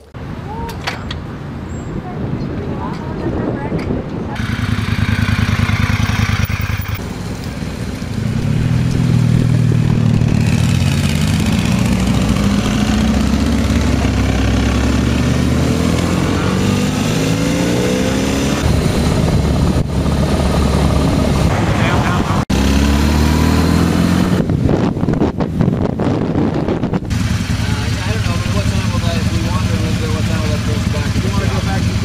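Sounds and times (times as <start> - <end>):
motorcycle engine accelerating: 4.4 - 32.0.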